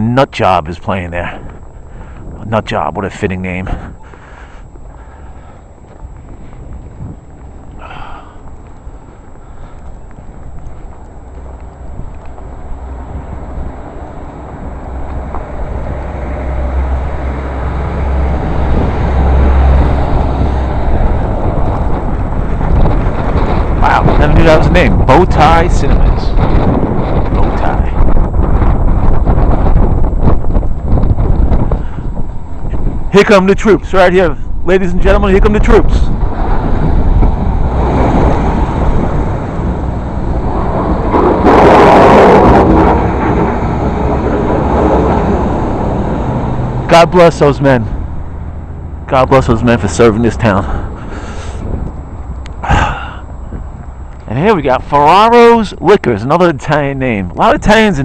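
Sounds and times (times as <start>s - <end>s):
rush of noise: 0.0s - 58.0s
wind buffeting microphone: 0.0s - 58.0s
trucks rumbling past: 3.0s - 58.0s.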